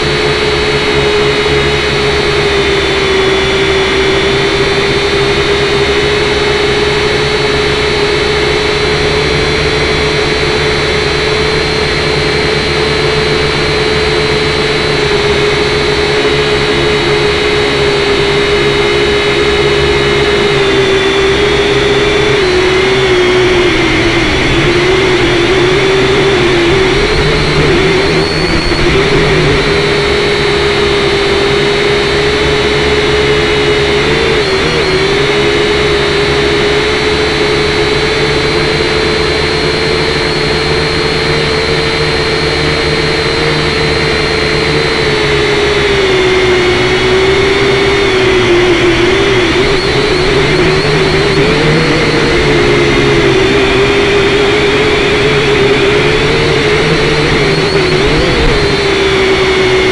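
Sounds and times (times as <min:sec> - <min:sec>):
quadcopter motors and propellers whining: 0:00.0 - 0:59.9.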